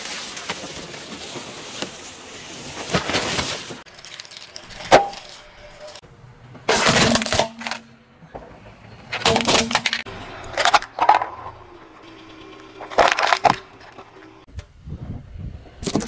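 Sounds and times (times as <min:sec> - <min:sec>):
car tyre crushing objects: 0:00.0 - 0:06.0, 0:06.6 - 0:11.8, 0:12.4 - 0:14.4.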